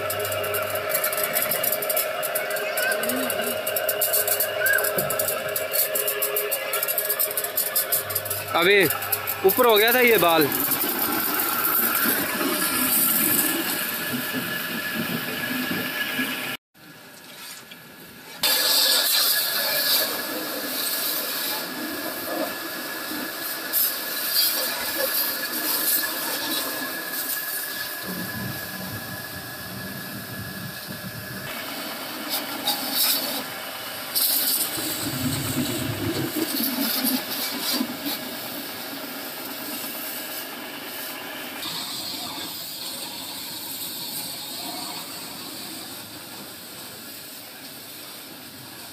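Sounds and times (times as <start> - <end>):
pressure washer pump whining: 0.0 - 16.6, 18.4 - 48.5
water jet hissing and splashing: 0.0 - 16.6, 18.4 - 48.9.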